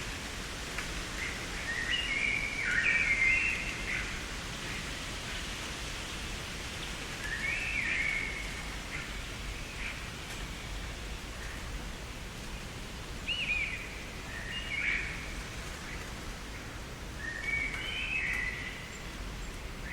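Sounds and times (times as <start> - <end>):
steady background hiss: 0.0 - 19.9.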